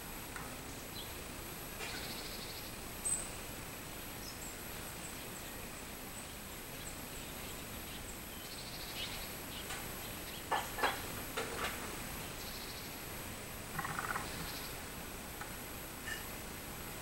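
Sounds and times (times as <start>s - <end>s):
pulsed cicada buzzes: 0.0s - 17.0s.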